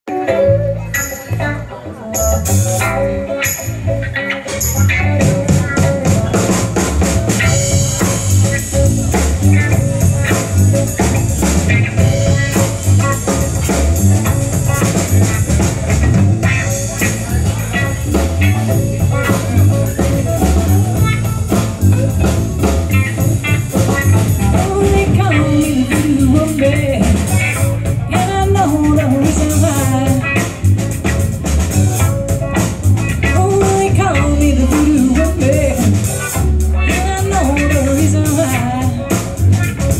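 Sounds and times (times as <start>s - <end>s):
bass guitar: 0.0s - 39.9s
electric guitar: 0.0s - 39.9s
drum kit beat: 0.1s - 39.9s.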